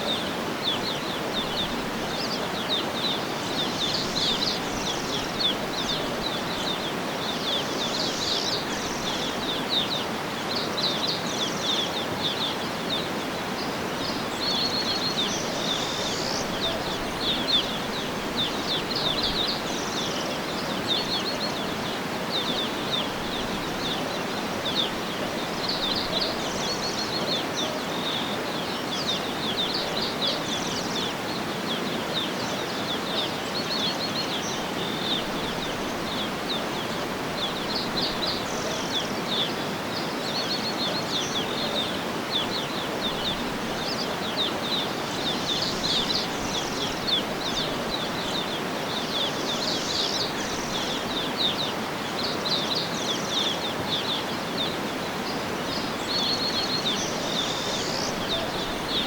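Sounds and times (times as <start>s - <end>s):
outdoor ambience hiss: 0.0s - 59.0s
small birds chirping: 0.0s - 59.0s.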